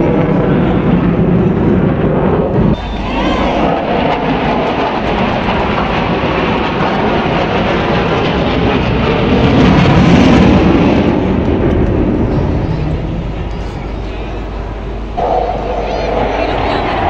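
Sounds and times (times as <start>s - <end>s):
fighter jet engine overhead: 0.0s - 17.0s.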